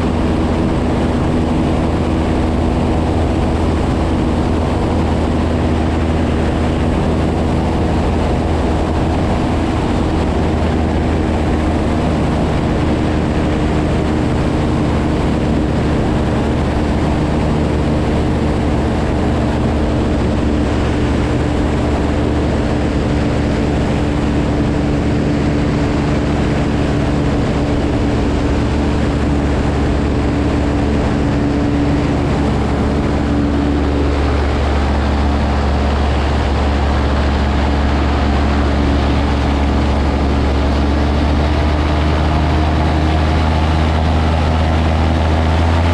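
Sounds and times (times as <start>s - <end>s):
light airplane engine drone: 0.0s - 45.9s.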